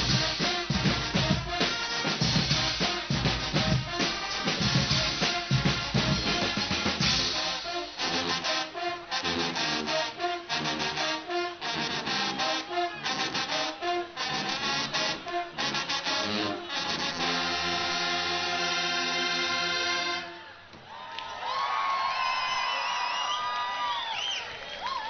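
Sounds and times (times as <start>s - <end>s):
carnival brass band playing: 0.0s - 20.5s.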